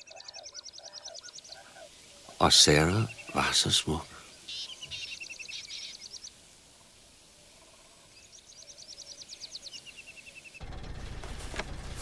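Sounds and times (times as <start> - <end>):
birds chirping: 0.0 - 12.0
faint outdoor ambience: 0.0 - 12.0.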